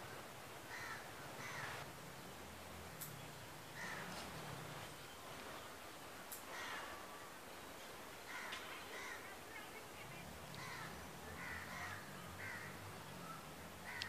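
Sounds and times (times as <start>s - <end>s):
birds calling faintly: 0.0s - 14.0s.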